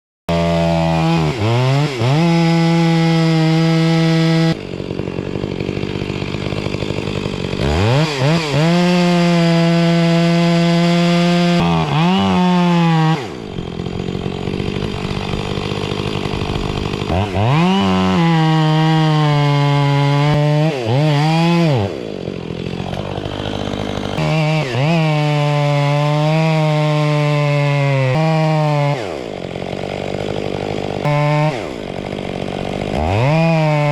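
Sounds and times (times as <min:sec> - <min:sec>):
chainsaw revving: 0:00.3 - 0:33.9.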